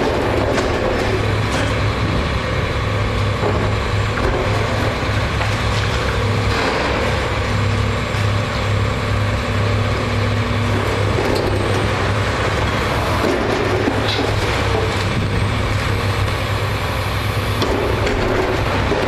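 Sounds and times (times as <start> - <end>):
excavator diesel engine drone: 0.0 - 19.0.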